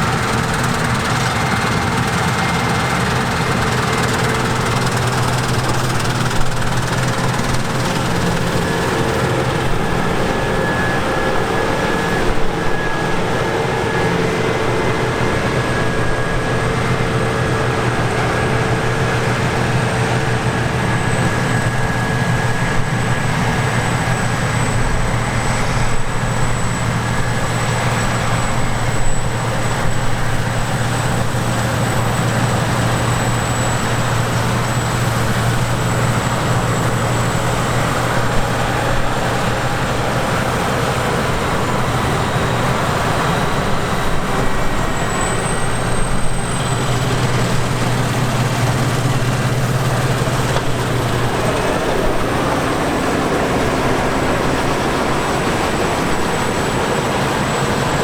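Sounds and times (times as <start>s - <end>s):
machinery whines: 0.0s - 58.0s.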